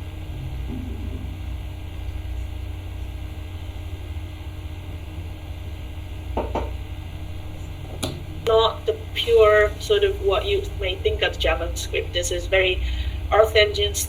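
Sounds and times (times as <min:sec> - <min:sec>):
low microphone hum: 0:00.0 - 0:14.0.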